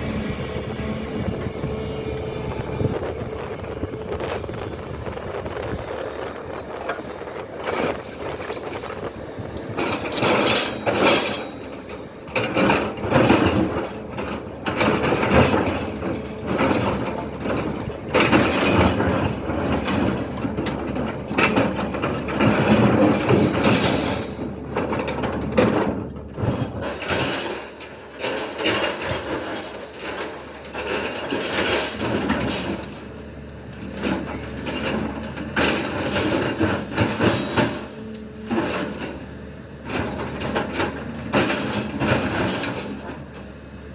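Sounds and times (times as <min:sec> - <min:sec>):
excavator rattling and clanking: 0:00.0 - 0:43.9.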